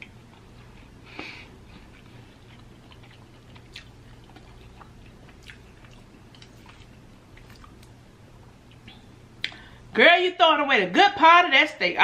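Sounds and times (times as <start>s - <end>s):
person chewing softly: 0.0s - 9.8s.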